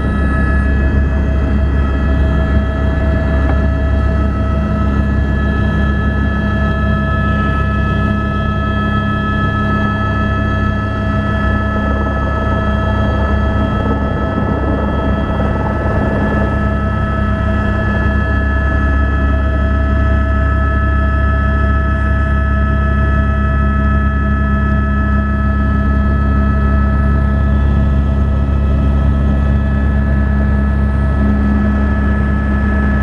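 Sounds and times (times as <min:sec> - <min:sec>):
helicopter engine and rotor rush: 0:00.0 - 0:33.0
steady whining tones: 0:00.0 - 0:33.0.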